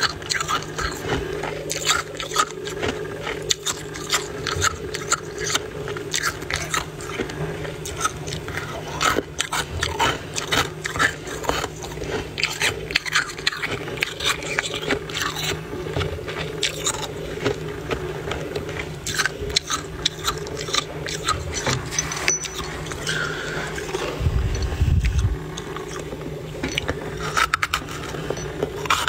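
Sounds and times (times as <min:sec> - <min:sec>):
frost crunching and scraping: 0:00.0 - 0:29.0
steady low hum: 0:00.0 - 0:29.0.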